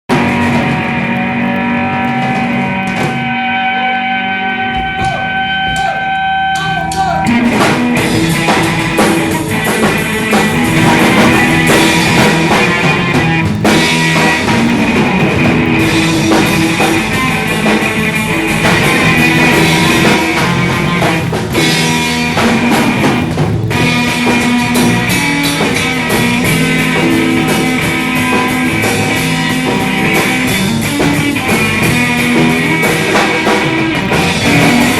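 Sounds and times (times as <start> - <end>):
drums: 0.0 - 34.9
electric guitar held notes: 0.0 - 34.9
rock band playing: 0.0 - 34.9.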